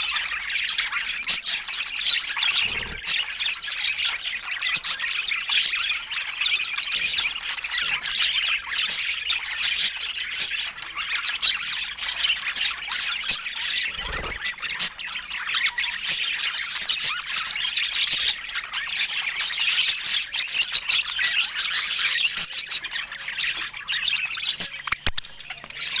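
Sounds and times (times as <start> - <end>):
budgerigars chattering and squawking: 0.0 - 26.0.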